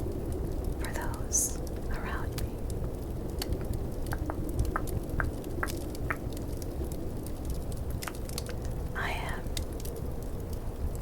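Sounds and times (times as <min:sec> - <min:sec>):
low rumble of snowstorm and fireplace: 0:00.0 - 0:11.0.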